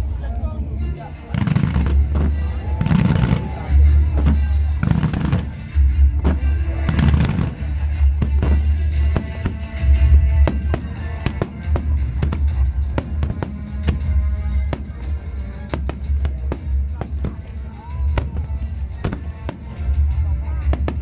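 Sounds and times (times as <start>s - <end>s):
fireworks bangs: 1.4s - 21.0s
loud music with heavy bass: 1.7s - 21.0s.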